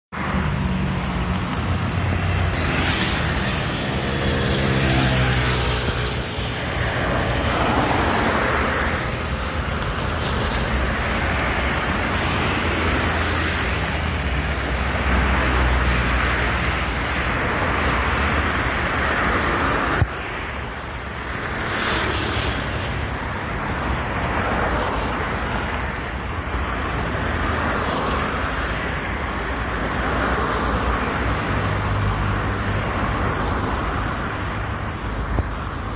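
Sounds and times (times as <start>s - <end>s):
vehicles passing: 0.1s - 35.9s.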